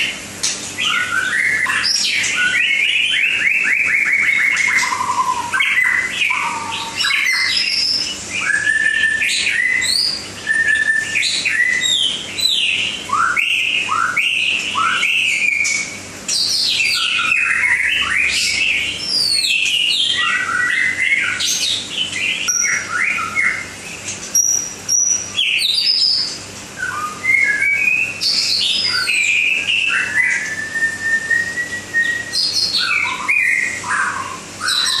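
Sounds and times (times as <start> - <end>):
bird singing whistled phrases: 0.8 - 35.0.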